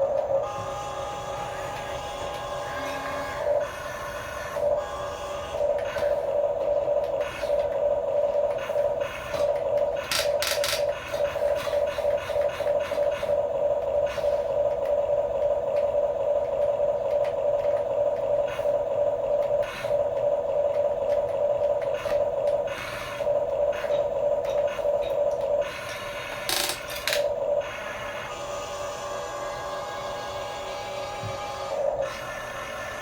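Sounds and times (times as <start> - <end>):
toy electric motors whining: 0.0 - 33.0.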